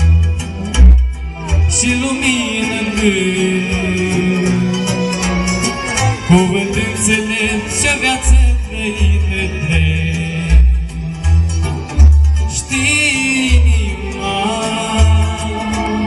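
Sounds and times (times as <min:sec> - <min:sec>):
backing track with bass: 0:00.0 - 0:16.0
man singing into a microphone: 0:01.4 - 0:11.6, 0:12.3 - 0:16.0.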